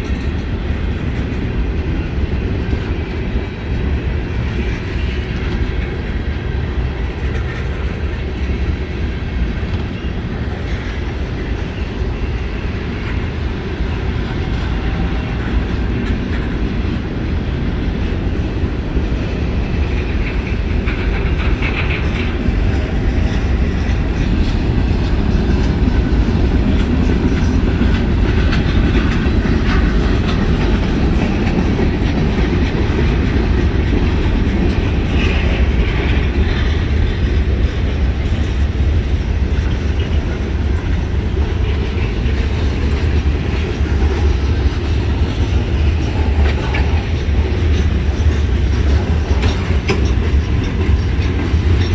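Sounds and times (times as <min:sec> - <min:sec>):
freight train rolling past: 0:00.0 - 0:51.9.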